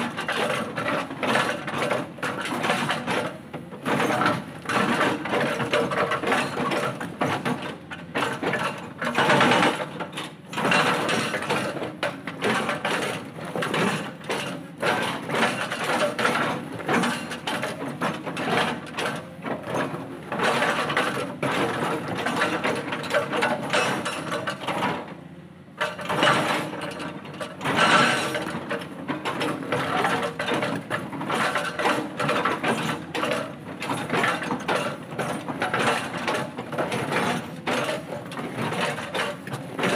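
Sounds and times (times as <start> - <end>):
hydraulic rock breaker hammering: 0.0 - 39.9.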